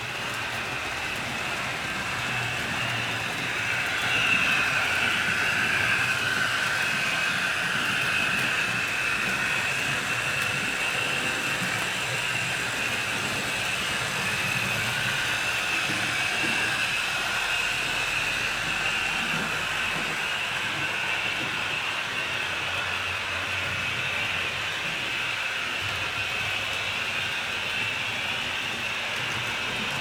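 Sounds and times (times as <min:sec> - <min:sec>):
model train motor whirring: 0:00.0 - 0:30.0.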